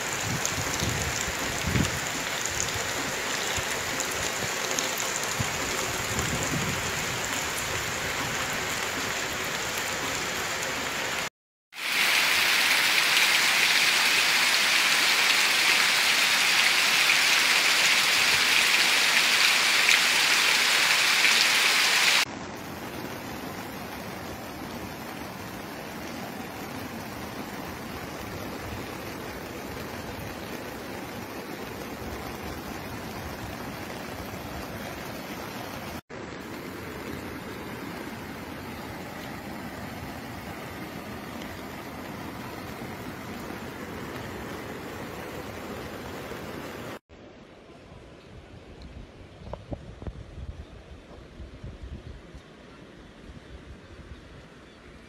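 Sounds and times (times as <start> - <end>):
heavy rain falling: 0.0 - 47.0
running water rushing: 0.0 - 47.0.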